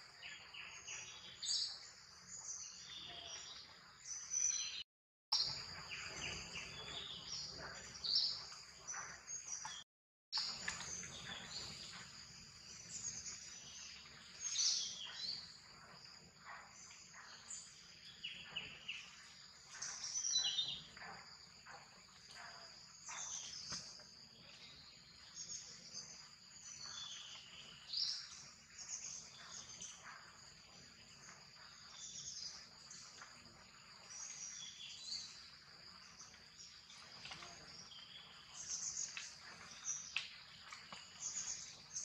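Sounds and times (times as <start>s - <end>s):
birds chirping: 0.0s - 9.8s, 10.4s - 42.0s.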